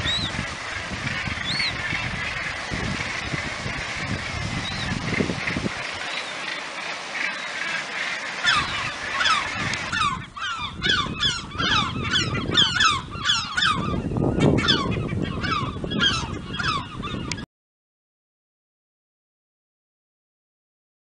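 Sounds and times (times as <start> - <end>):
gulls calling harshly: 0.0 - 17.5.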